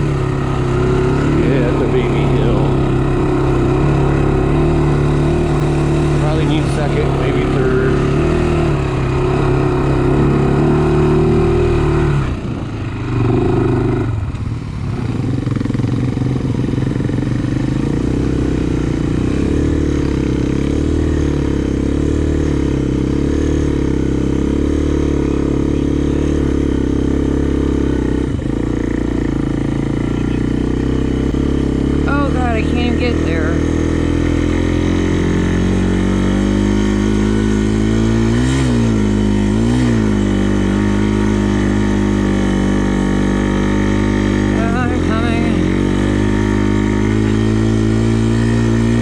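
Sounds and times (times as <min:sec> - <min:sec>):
atv engine under throttle: 0:00.0 - 0:49.0.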